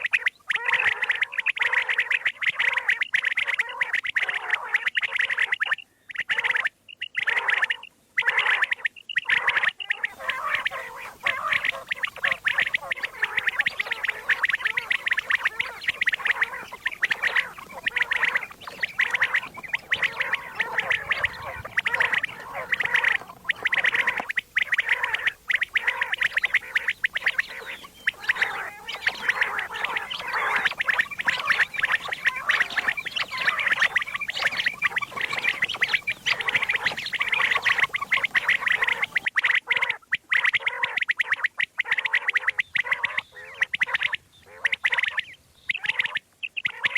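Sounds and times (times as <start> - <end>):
quail gargling chatter: 0.0 - 46.9.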